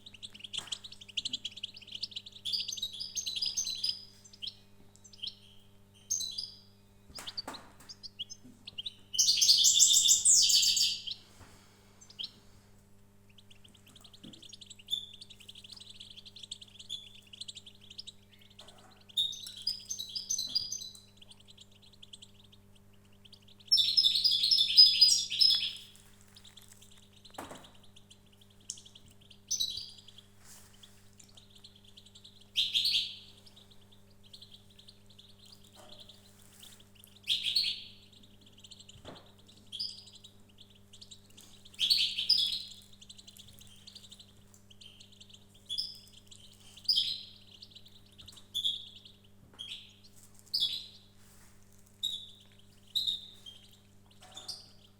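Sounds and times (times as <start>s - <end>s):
songbird singing: 0.0s - 12.5s, 13.2s - 51.2s, 52.0s - 54.9s
faint low hum: 0.0s - 54.9s.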